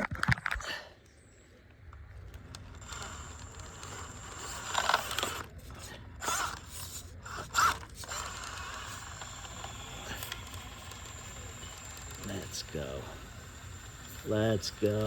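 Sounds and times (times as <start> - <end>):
high motor whine: 2.4 - 15.0
crawler grinding against rock: 2.6 - 15.0.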